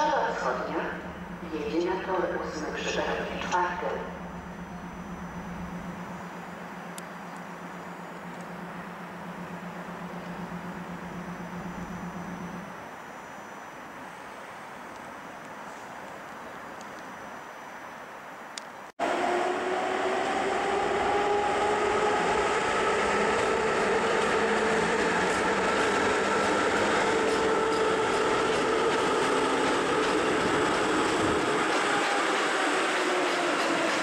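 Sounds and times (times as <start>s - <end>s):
train running past with whining tones: 0.0s - 34.0s.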